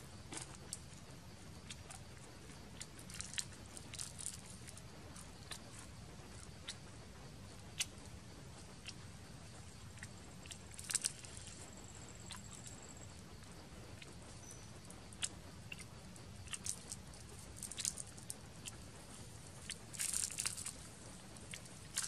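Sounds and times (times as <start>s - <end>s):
crunching and chewing: 0.3s - 1.0s, 1.6s - 6.8s, 9.9s - 22.0s.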